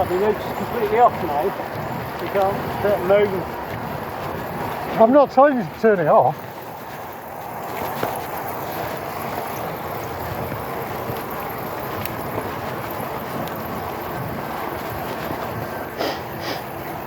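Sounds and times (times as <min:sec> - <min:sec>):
bicycle rear hub whirring: 0:00.0 - 0:17.0
wind and riding noise: 0:00.0 - 0:17.0.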